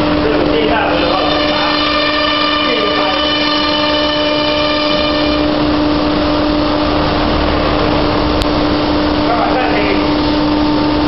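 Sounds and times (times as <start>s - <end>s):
milling spindle whine: 0.0s - 11.0s.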